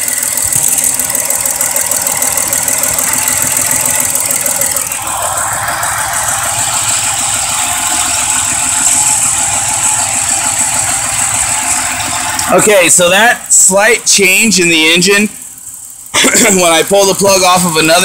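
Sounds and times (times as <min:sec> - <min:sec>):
car engine idling rough: 0:00.0 - 0:18.0.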